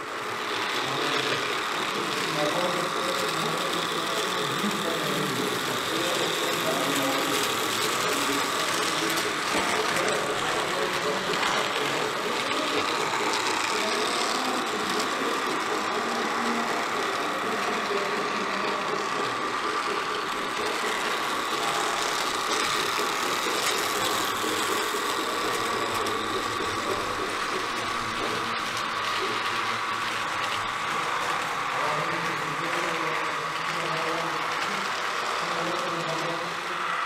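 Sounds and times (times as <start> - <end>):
model train motor whirring: 0.0 - 37.0.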